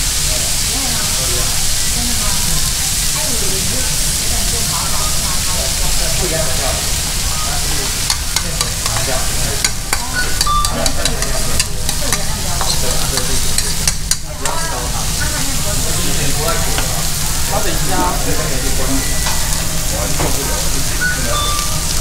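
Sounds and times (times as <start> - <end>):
batter sizzling on a griddle: 0.0 - 22.0.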